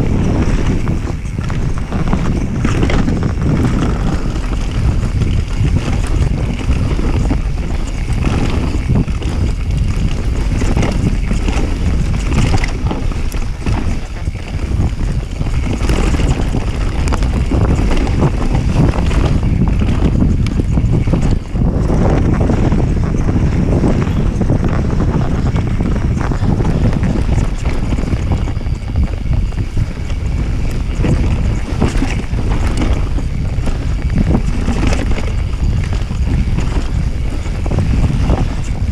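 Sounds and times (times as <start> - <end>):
bike knocking and rattling: 0.0 - 38.9
tyres rumbling on dirt: 0.0 - 38.9
wind buffeting microphone: 0.0 - 38.9.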